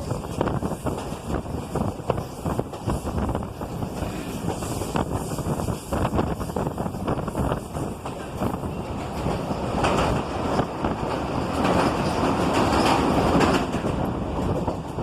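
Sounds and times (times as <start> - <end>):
train wheels clattering on track: 0.0 - 15.0.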